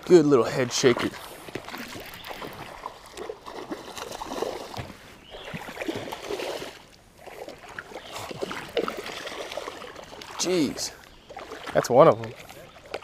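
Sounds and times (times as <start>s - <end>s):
fish splashing at water surface: 0.9s - 13.0s.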